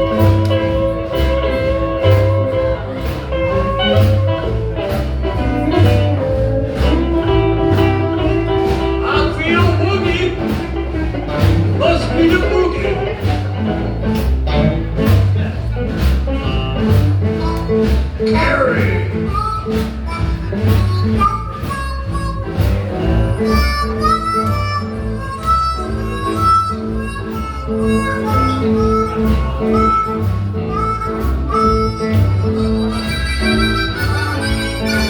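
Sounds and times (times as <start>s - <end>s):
live blues band: 0.0s - 35.0s
sliding guitar lead: 0.0s - 35.0s.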